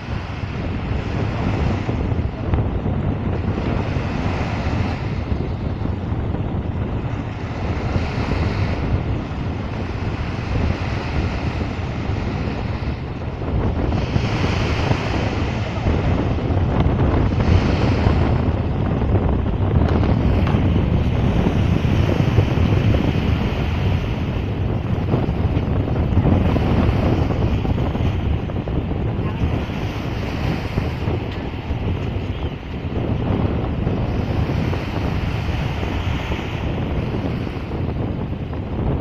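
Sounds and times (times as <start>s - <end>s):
waves washing onto beach: 0.0s - 39.0s
wind buffeting microphone: 0.0s - 39.0s.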